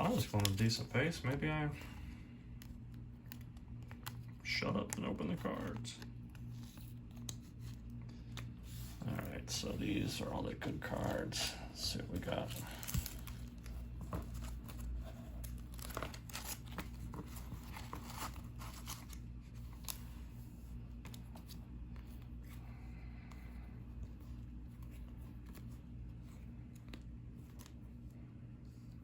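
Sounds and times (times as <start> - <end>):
faint electrical hum: 0.0 - 29.0
trading cards being handled: 0.0 - 29.0.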